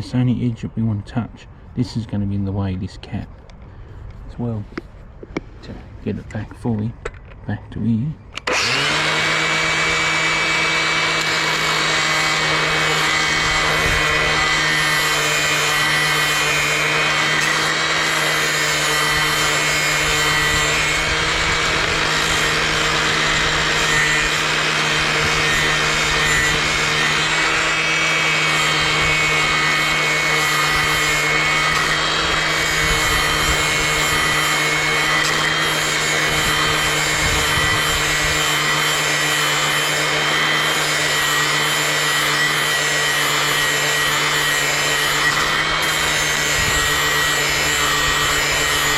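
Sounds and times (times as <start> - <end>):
angle grinder motor whine: 8.3 - 48.9
grinding disc rasping on metal: 8.5 - 48.9.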